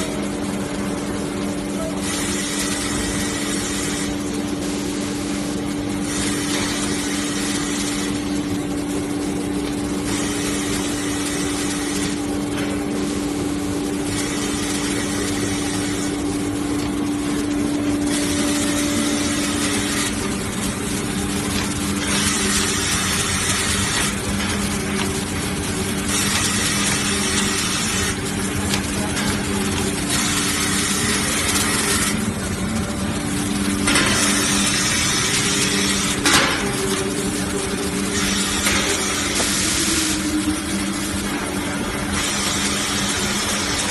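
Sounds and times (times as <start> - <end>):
machine hum: 0.0 - 43.9.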